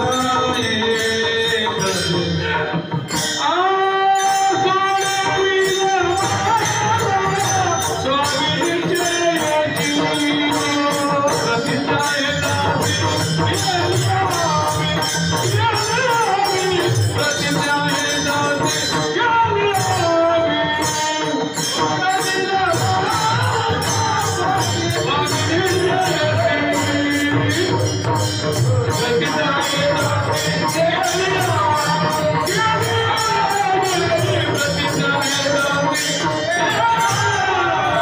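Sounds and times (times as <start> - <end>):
hand cymbals clashing: 0.0 - 38.0
voices singing: 0.0 - 38.0.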